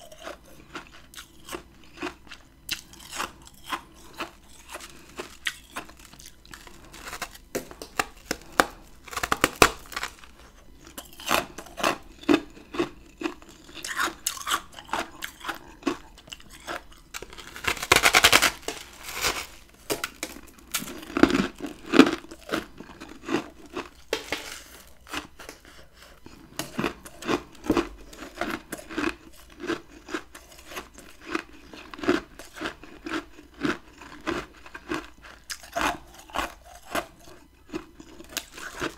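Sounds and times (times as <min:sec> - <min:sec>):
frost crunching while chewed: 0:00.0 - 0:38.9.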